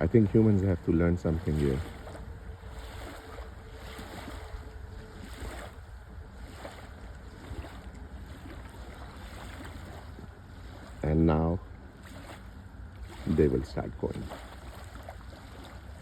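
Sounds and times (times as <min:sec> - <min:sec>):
faint steady hum: 0:00.0 - 0:16.0
low outdoor rumble: 0:00.0 - 0:16.0.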